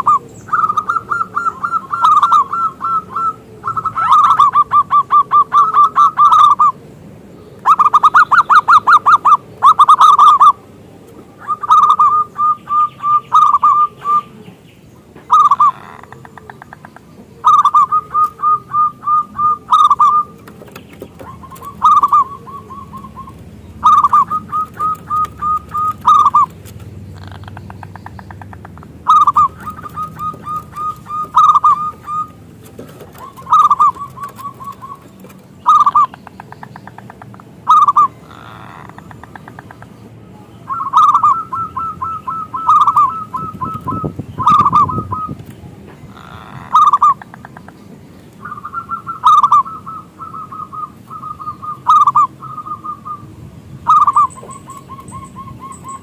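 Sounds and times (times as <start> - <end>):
dove cooing: 0.0 - 6.8, 7.6 - 14.5, 15.2 - 39.9, 40.7 - 47.6, 48.4 - 56.0.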